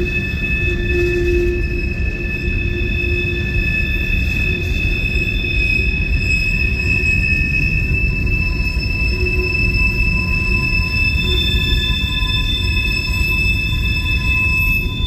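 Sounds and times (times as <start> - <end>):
high-pitched wheel squeal: 0.0 - 15.0
train wheels rumbling on rail: 0.0 - 15.0.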